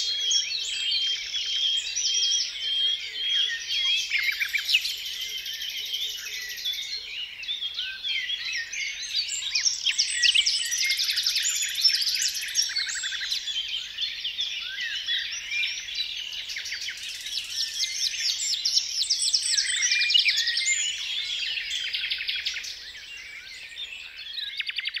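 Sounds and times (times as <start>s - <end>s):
songbirds chorus: 0.0s - 25.0s.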